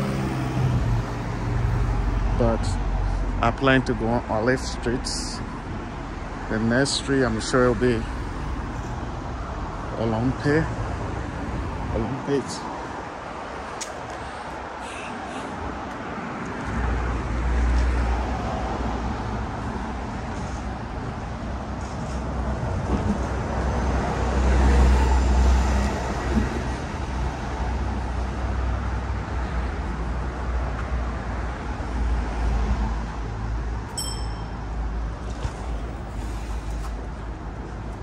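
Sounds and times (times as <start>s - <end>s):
bus passing: 0.0s - 38.0s
city road traffic: 0.0s - 38.0s.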